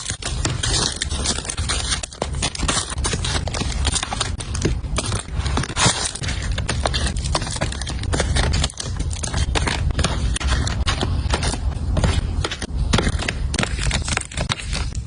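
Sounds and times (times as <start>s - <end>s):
household items tapping and scraping: 0.0s - 15.0s
low rumble of handling noise: 0.0s - 15.0s.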